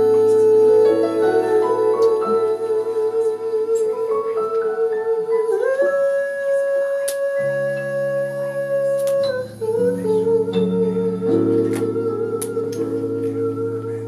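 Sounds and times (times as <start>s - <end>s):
low accompanying notes: 0.0s - 14.0s
woman singing long note: 0.0s - 14.0s.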